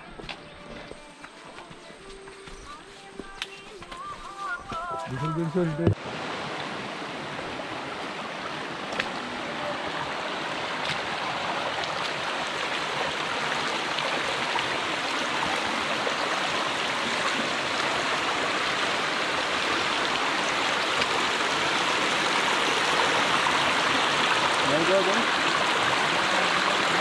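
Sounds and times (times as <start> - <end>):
stream water rushing: 4.9 - 27.0.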